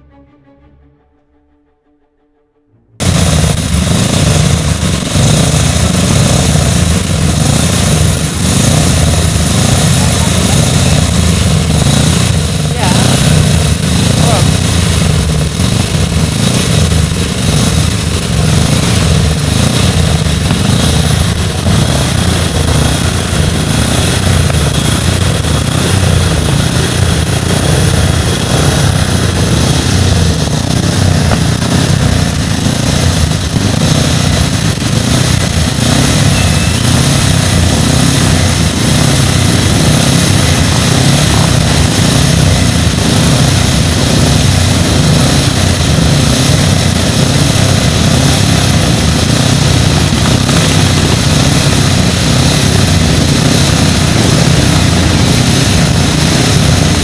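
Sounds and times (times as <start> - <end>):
racing car engines droning: 2.8 - 57.0.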